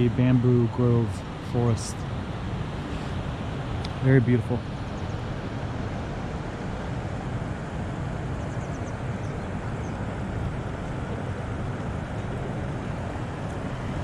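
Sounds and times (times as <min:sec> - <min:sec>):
river water rushing over weir: 0:00.0 - 0:14.0.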